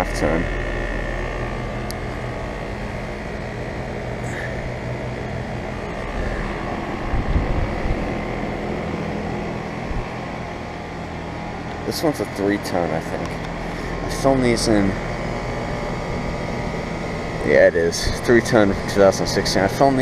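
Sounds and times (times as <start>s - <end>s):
compressor hum: 0.0s - 20.0s
whoosh of condenser fans: 0.0s - 20.0s.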